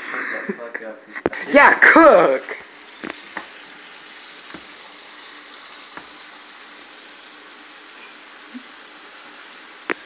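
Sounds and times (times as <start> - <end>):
meat sizzling in frying pan: 1.5 - 10.0.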